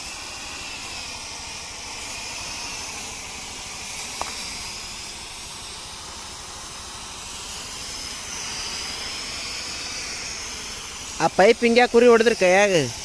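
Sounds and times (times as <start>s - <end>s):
spray gun hissing: 0.0s - 13.0s.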